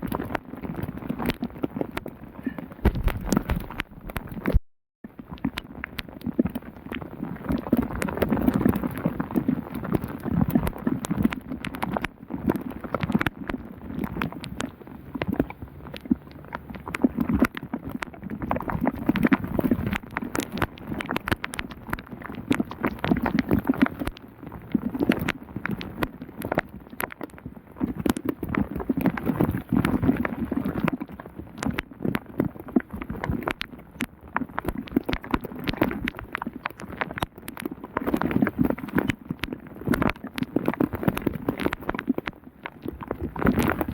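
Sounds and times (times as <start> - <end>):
raindrops striking microphone: 0.0 - 43.9.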